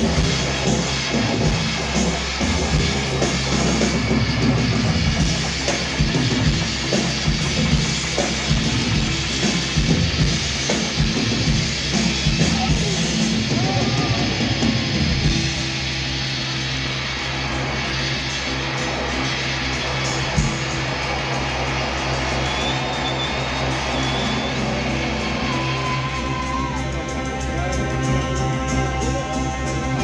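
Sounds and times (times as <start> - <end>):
droning bass and guitar: 0.0 - 30.0
drum kit playing: 0.0 - 30.0.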